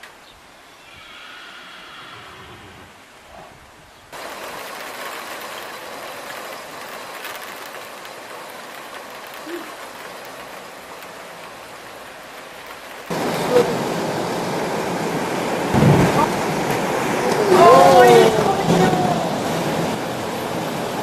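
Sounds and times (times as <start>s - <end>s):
heavy rain falling: 4.1s - 21.0s.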